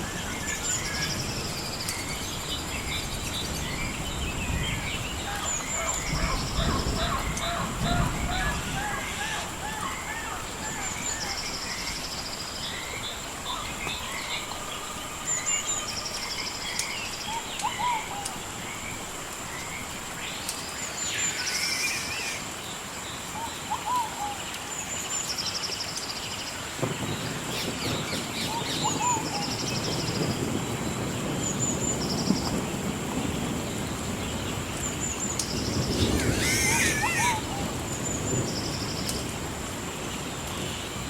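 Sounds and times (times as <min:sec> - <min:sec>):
thunder rumbling: 0:00.0 - 0:20.1, 0:26.7 - 0:41.0
birds singing: 0:00.0 - 0:41.0.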